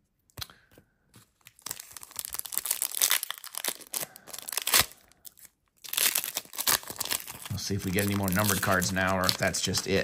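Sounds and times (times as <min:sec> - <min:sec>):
foil wrapper crinkling and tearing: 0:01.4 - 0:10.0.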